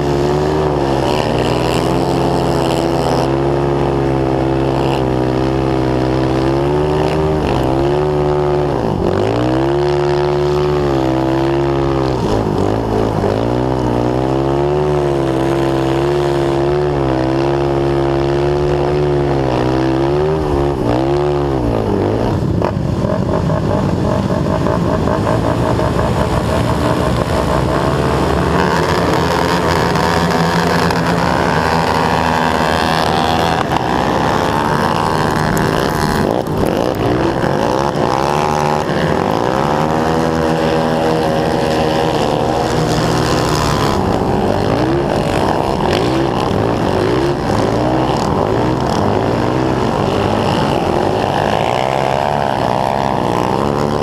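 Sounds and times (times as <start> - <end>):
other racing quad engines: 0.0 - 54.0
quad engine racing at high revs: 0.0 - 54.0.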